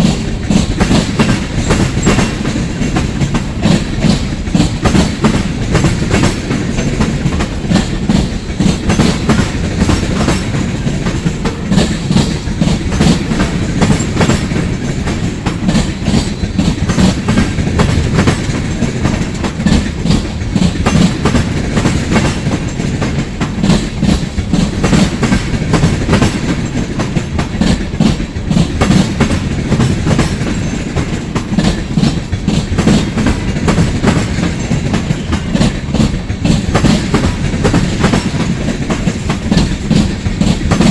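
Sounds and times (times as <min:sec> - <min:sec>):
train rumble: 0:00.0 - 0:40.9
train wheels clacking on rails: 0:00.0 - 0:40.9.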